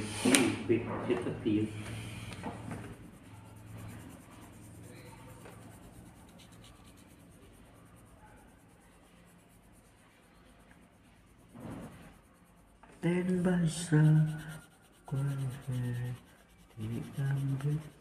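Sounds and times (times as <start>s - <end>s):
pencil scratching on paper: 1.2s - 18.0s.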